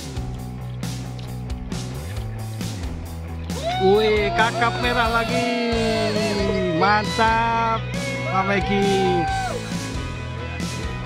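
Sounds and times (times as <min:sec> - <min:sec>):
background music with bass and guitar: 0:00.0 - 0:11.0.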